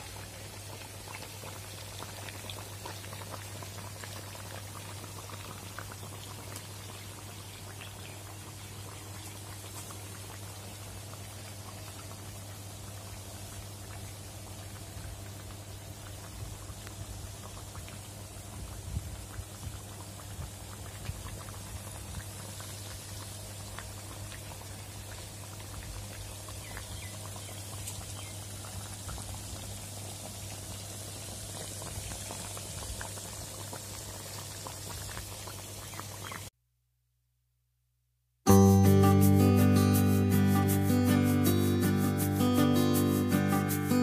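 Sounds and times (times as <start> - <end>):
chicken frying in a pan: 0.0 - 36.5.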